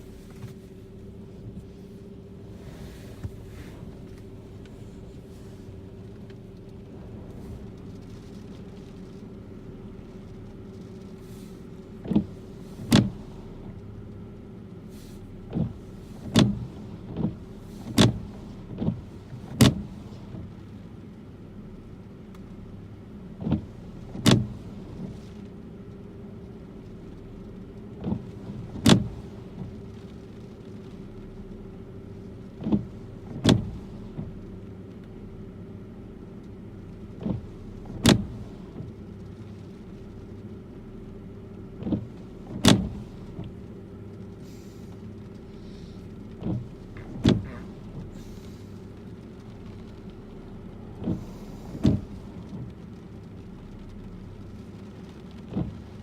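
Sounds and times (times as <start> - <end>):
car low hum: 0.0 - 56.0.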